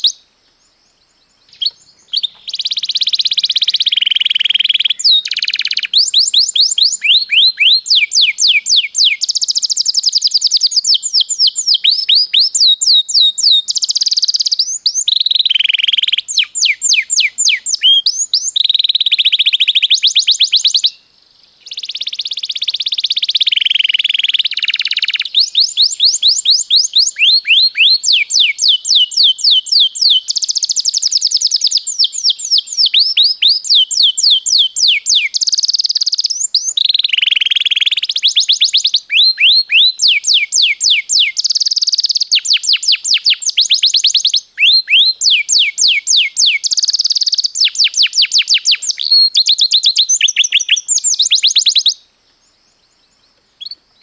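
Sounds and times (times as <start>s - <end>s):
canary singing trills: 0.0s - 0.2s, 1.0s - 21.0s, 21.6s - 52.0s, 52.7s - 54.0s.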